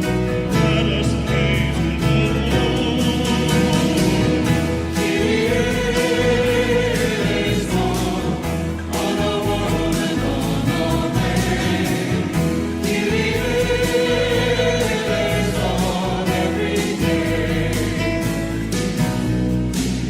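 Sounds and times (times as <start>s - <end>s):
choir singing a hymn: 0.0s - 19.3s
deep bass: 0.0s - 20.0s.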